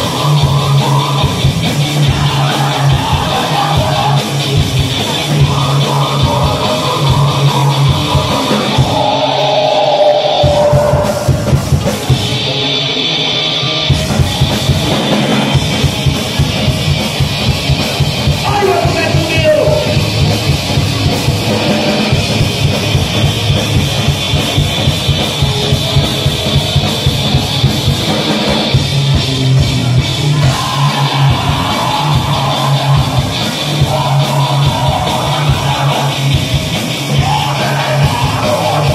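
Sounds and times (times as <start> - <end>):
fast dense drumming: 0.0 - 12.5, 13.9 - 38.9
heavy metal band playing live: 0.0 - 38.9.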